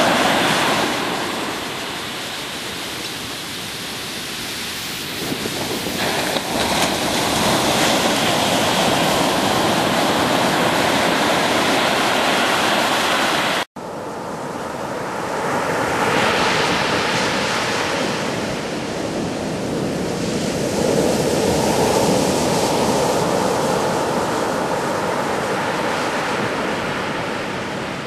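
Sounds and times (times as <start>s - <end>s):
waves breaking on beach: 0.0s - 28.0s
wind buffeting microphone: 0.0s - 28.0s.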